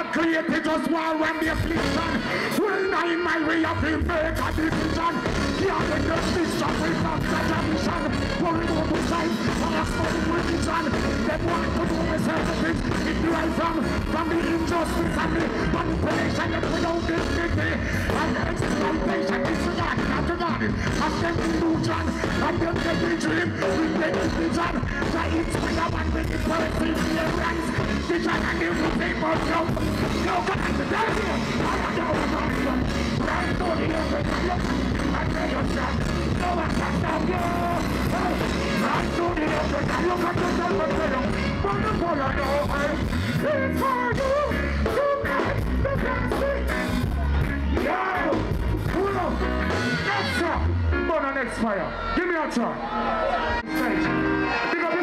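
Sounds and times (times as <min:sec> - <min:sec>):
man singing: 0:00.0 - 0:51.0
live reggae band: 0:00.0 - 0:55.0
steady bass line: 0:01.2 - 0:55.0.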